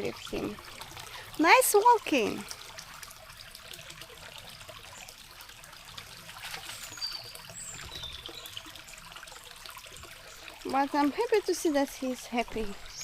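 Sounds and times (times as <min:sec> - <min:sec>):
stream trickling: 0:00.0 - 0:13.0.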